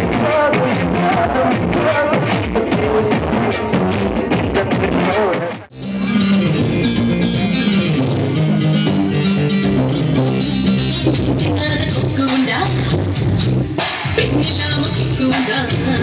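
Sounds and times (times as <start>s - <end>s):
loud dance song music: 0.0s - 16.0s.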